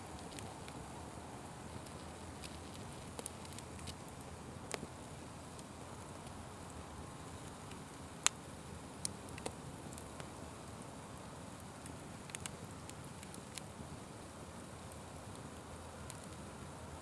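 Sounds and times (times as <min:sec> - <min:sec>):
fire crackling and popping: 0:00.0 - 0:16.8.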